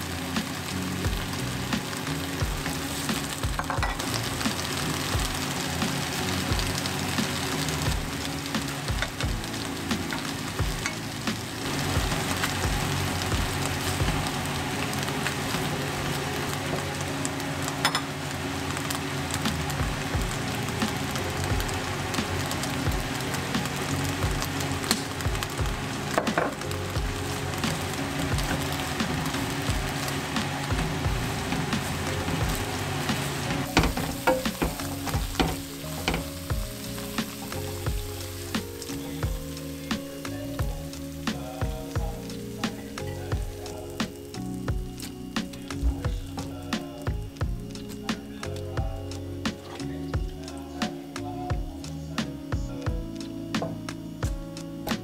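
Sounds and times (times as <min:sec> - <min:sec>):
noodles sizzling in a frying pan: 0:00.0 - 0:55.0.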